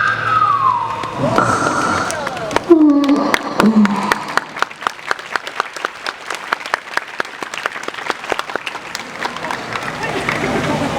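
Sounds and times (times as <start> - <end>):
audience applauding: 0.8 - 10.9.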